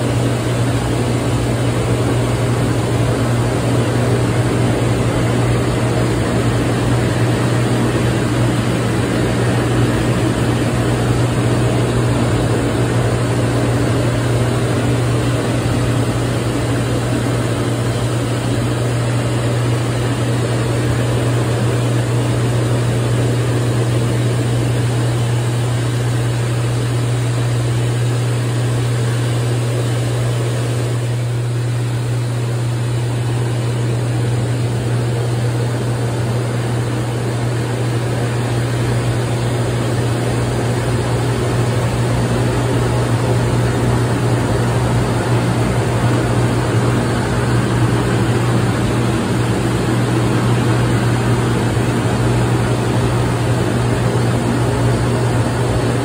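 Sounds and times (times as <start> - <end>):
pump humming: 0.0 - 56.0.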